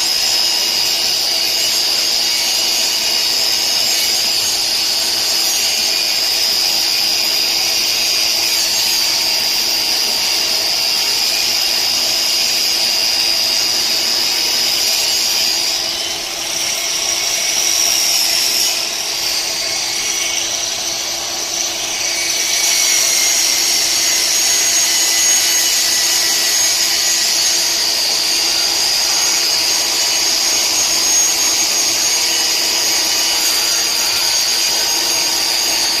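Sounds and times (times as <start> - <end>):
power tool high whine: 0.0 - 36.0.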